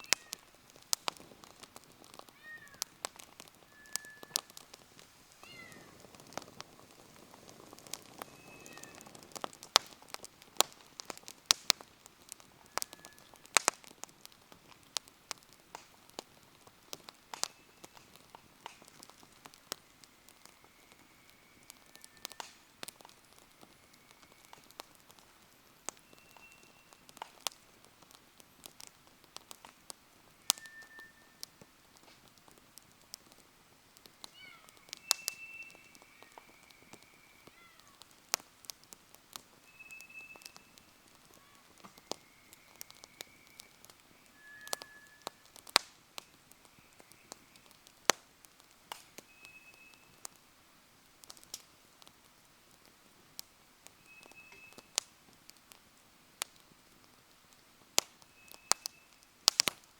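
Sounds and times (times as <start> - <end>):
high whistles from burning wood: 0.0 - 59.9
wood fire crackling and popping: 0.0 - 59.9.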